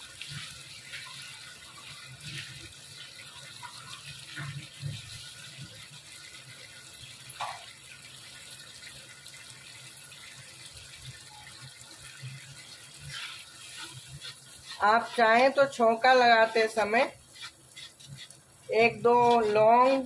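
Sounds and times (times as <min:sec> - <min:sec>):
sauce bubbling and popping: 0:00.0 - 0:19.6.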